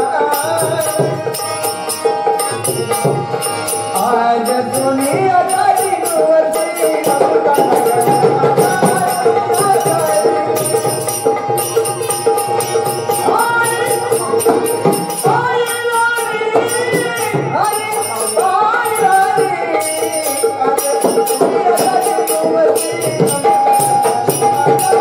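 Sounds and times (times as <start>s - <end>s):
jingling percussion: 0.0s - 25.0s
person singing devotional song: 0.0s - 25.0s.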